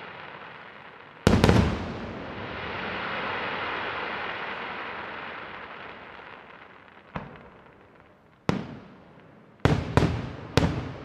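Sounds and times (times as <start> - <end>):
firework bangs: 0.0 - 11.0.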